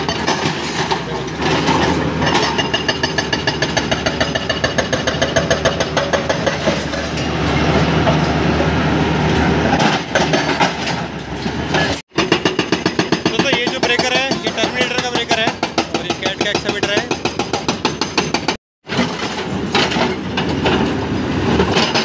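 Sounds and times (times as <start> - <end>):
hydraulic rock breaker hammering: 0.0 - 8.7, 9.6 - 20.9, 21.5 - 22.0.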